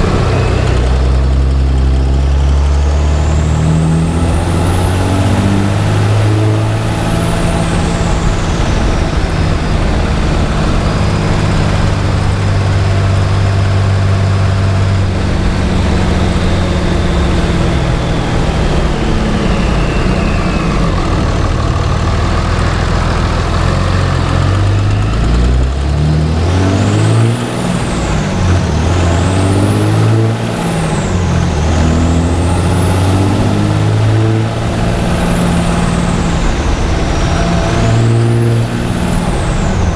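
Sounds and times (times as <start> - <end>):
diesel truck engine under load: 0.0 - 39.9
turbocharger whistling: 0.0 - 39.9.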